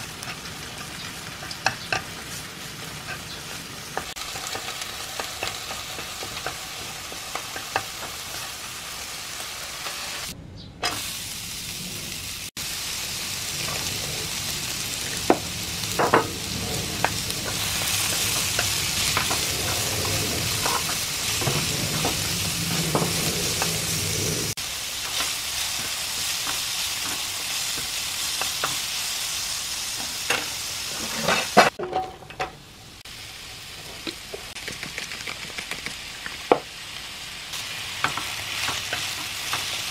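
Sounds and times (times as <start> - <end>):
vegetables sizzling in pan: 0.0 - 31.8, 33.0 - 34.6, 35.5 - 39.9.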